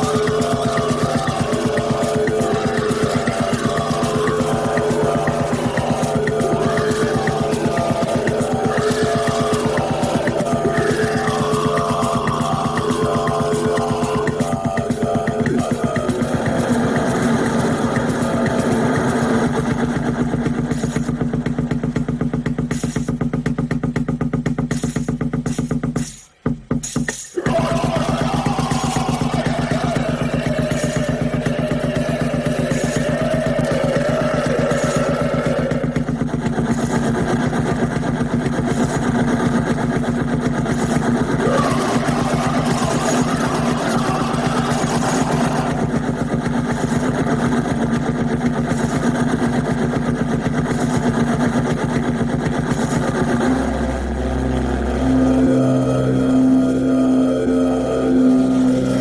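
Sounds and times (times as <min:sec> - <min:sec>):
low drones: 0:00.0 - 0:23.8, 0:27.4 - 0:59.0
fast pulsing electronic buzz: 0:00.0 - 0:25.8, 0:27.4 - 0:59.0.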